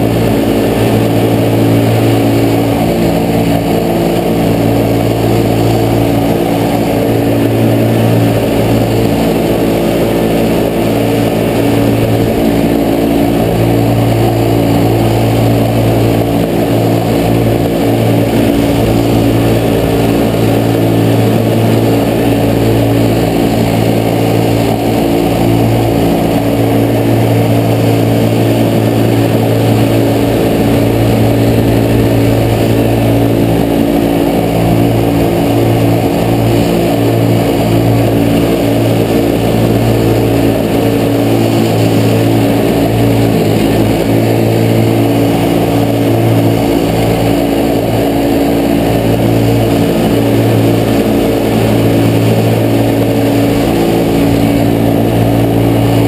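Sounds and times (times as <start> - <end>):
snowmobile engine revving high: 0.0 - 56.0.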